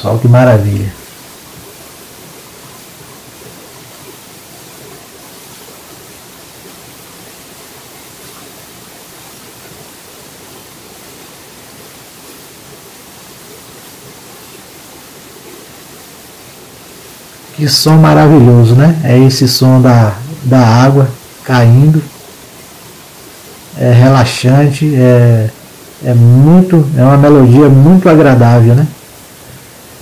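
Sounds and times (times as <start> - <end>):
waterfall rushing into a pool: 0.0 - 30.0.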